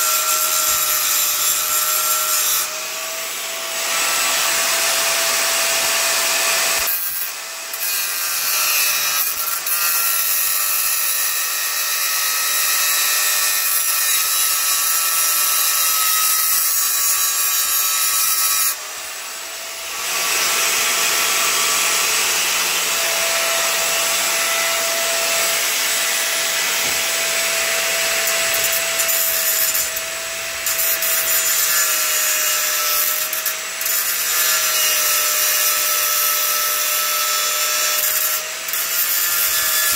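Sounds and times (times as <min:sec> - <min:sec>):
angle grinder cutting metal: 0:00.0 - 0:39.9.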